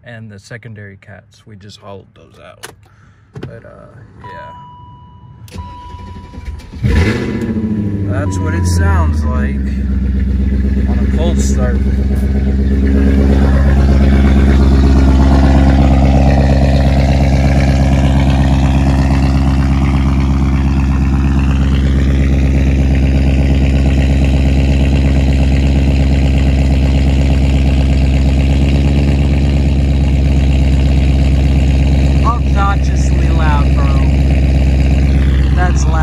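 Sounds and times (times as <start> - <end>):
loud car engine idling: 5.5 - 36.0.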